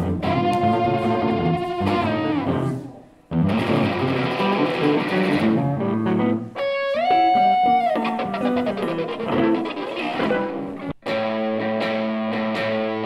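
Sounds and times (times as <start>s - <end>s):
electric guitar through amplifier: 0.0s - 13.0s.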